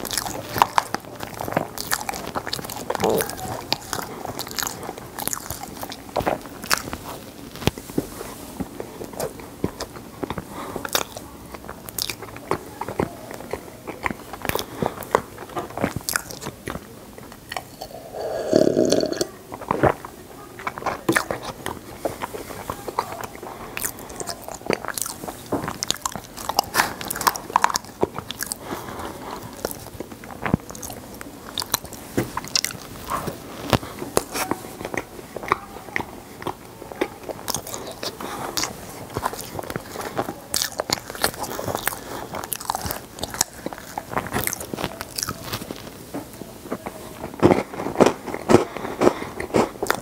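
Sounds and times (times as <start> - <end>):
ice crunching between teeth: 0.0 - 50.0.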